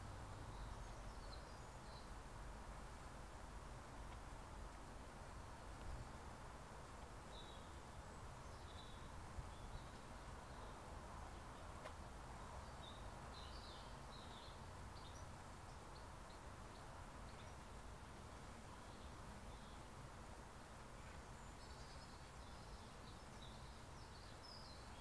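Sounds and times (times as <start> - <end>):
faint outdoor background noise: 0.0 - 25.0
small birds chirping: 0.0 - 25.0.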